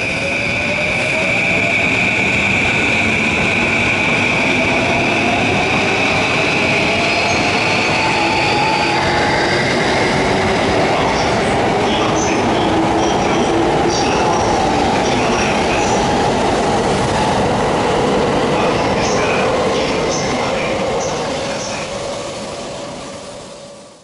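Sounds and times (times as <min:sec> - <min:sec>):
train rail running noise: 0:00.0 - 0:24.0.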